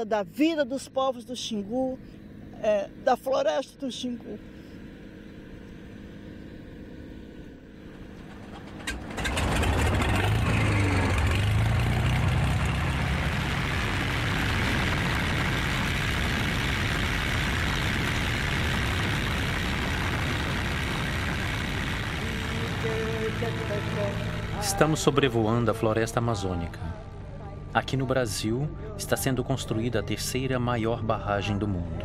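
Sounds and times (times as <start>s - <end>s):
faint background hum: 0.0s - 10.1s, 12.3s - 32.0s
propeller plane engine droning: 0.0s - 32.0s.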